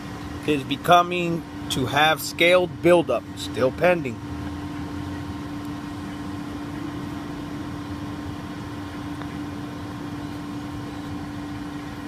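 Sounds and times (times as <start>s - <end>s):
machinery humming with steady tone: 0.0s - 12.0s.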